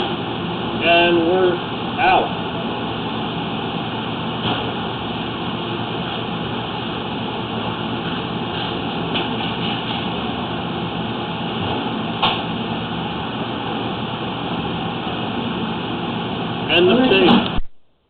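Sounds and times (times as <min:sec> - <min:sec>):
steady mechanical running noise: 0:00.0 - 0:17.6.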